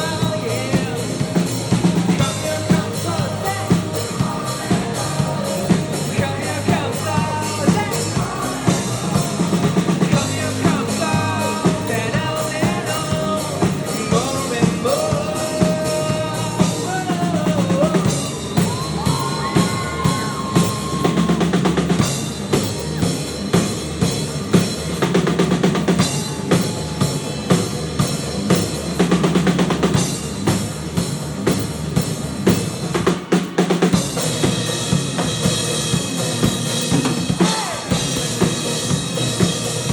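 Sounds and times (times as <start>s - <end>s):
bass line: 0.0s - 39.9s
drum kit beat: 0.0s - 39.9s.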